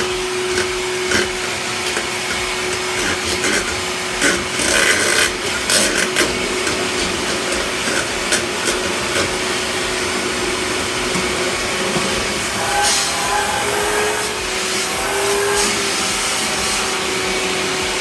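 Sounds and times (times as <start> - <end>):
scraping and knocking clatters: 0.0 - 14.6
small electric motor running: 0.0 - 18.0.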